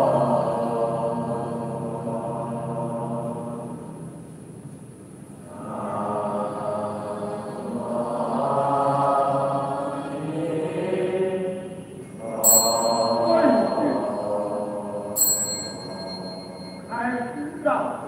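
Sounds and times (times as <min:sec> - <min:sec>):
slow devotional chanting: 0:00.0 - 0:18.0.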